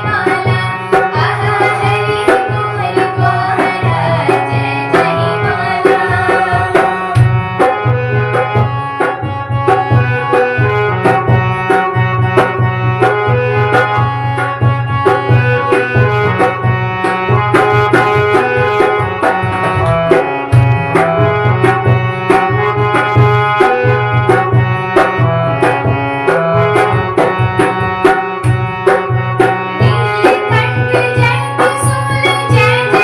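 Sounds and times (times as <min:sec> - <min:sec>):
hand drum rhythm: 0:00.0 - 0:33.0
held melody line: 0:00.0 - 0:33.0.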